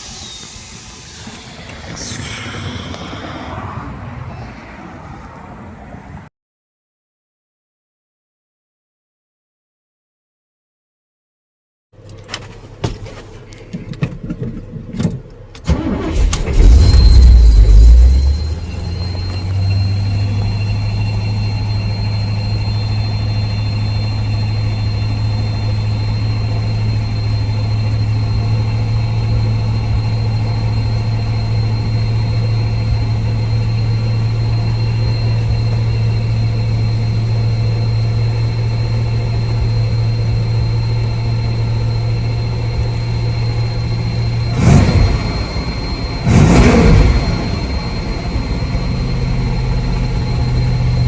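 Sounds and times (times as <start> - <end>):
truck engine idling: 0.0 - 6.0, 12.0 - 51.0
truck engine revving: 0.0 - 6.2, 15.6 - 51.0.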